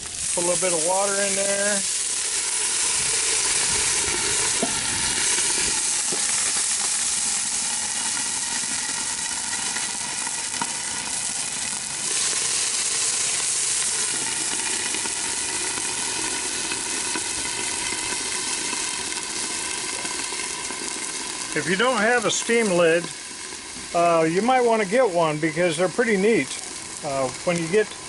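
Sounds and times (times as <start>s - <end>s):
vegetables sizzling on a griddle: 0.0s - 28.0s
water hissing into steam: 0.0s - 28.0s.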